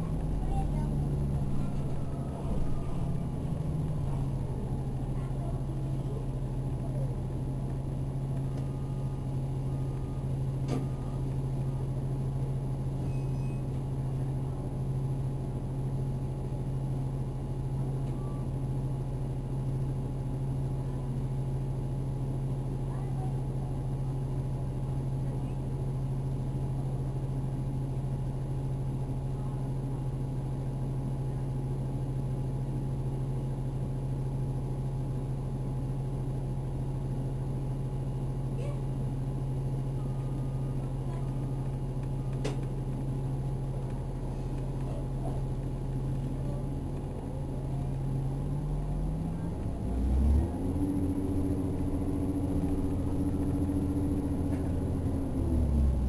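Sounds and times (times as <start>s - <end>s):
bus drive whine: 0.0s - 56.0s
steady low hum: 0.0s - 56.0s.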